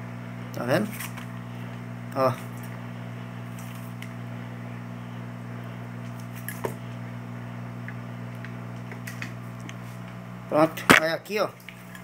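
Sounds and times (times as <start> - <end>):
heat gun fan humming: 0.0 - 12.0.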